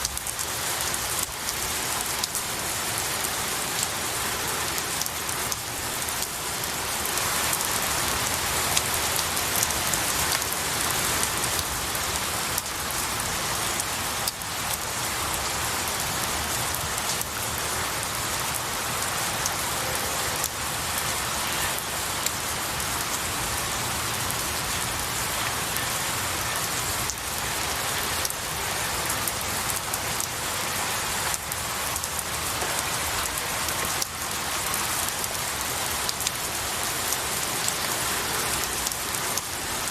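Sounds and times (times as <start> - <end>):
rain pattering on trees: 0.0 - 39.9.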